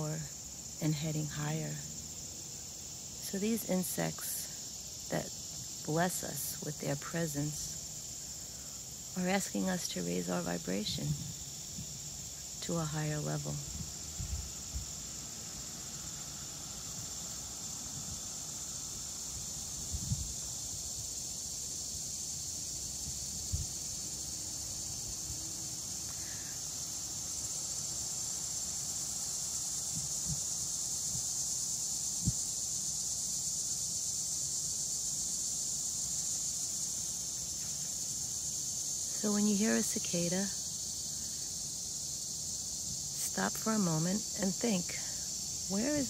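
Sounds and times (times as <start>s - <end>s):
cicadas droning: 0.0s - 46.0s.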